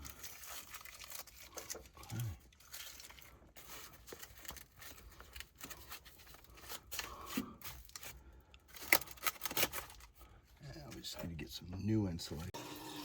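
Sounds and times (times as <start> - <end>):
foam insulation rustling and tearing: 0.0 - 11.2.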